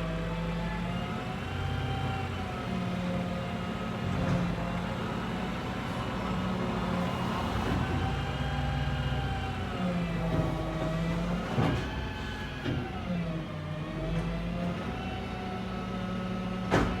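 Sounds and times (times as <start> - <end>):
traffic engines running: 0.0 - 15.6.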